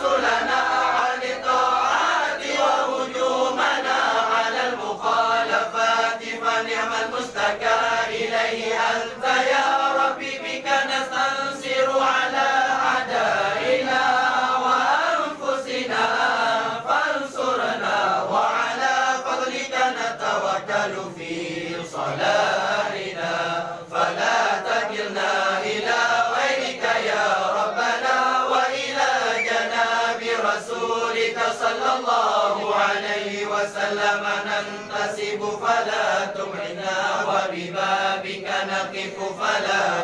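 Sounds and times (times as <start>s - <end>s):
men chanting in unison: 0.0s - 40.0s.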